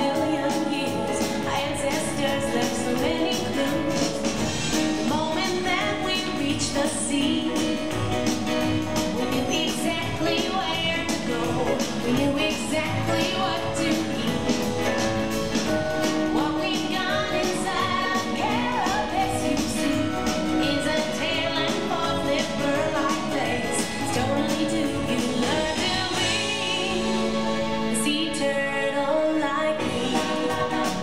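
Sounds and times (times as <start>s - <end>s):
pop song with singing: 0.0s - 31.0s.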